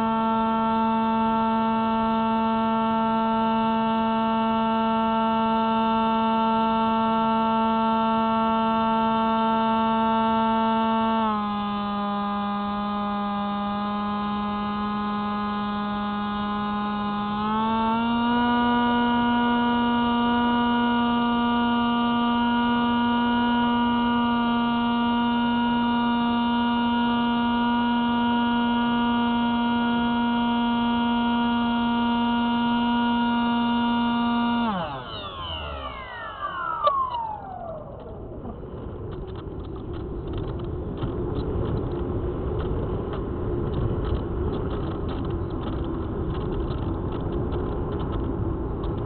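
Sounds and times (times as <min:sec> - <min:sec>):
model plane electric motor humming: 0:00.0 - 0:42.8.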